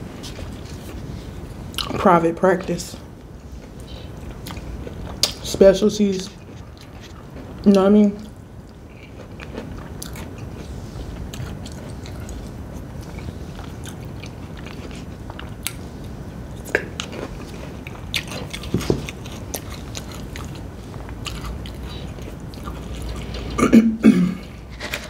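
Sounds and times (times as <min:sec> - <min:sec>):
person chewing food: 0:03.2 - 0:05.4, 0:06.3 - 0:25.0.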